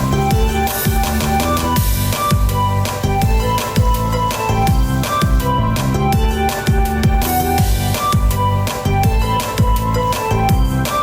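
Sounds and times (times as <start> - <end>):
deep kick drums: 0.0 - 10.9.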